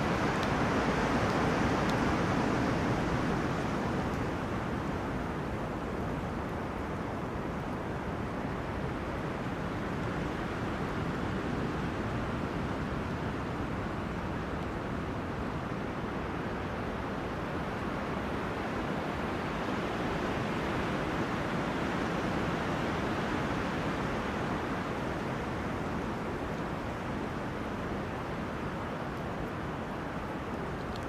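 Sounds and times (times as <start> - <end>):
wind through trees: 0.0 - 31.0.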